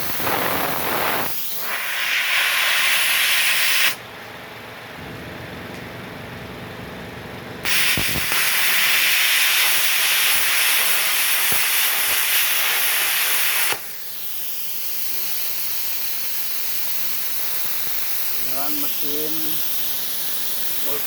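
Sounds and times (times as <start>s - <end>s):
plasma cutter torch hissing: 0.0s - 4.0s, 7.6s - 21.0s
air compressor humming: 0.0s - 21.0s.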